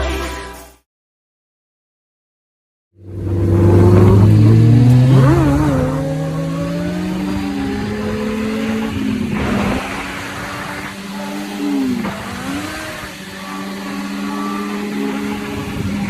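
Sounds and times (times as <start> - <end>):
motorcycle engine accelerating: 3.0 - 16.0.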